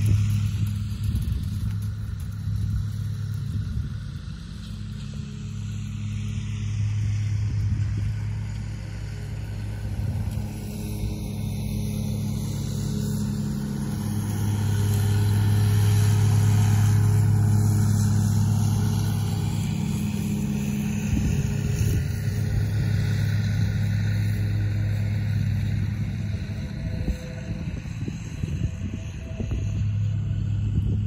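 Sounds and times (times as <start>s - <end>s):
lawn mower engine humming: 0.0s - 31.0s.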